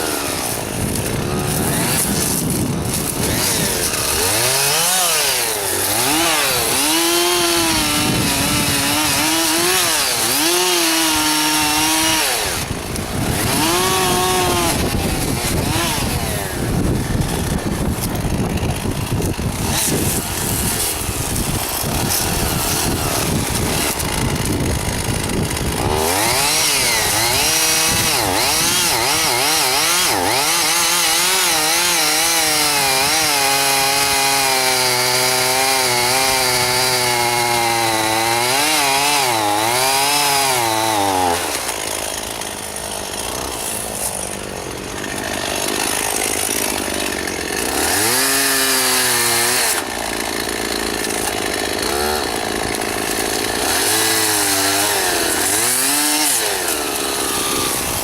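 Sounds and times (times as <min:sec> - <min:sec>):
chainsaw cutting wood: 0:00.0 - 0:58.0
chainsaw revving: 0:00.0 - 0:58.0.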